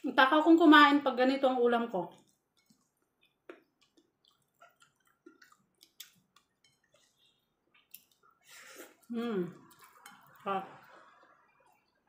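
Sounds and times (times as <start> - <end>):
person chewing food: 2.2 - 12.0.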